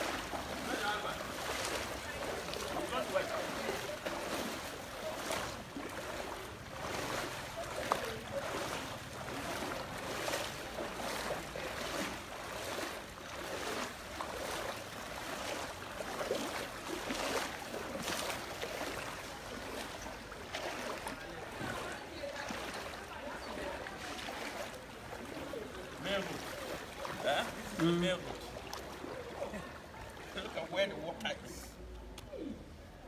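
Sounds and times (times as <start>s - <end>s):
footsteps splashing through water: 0.0s - 32.8s.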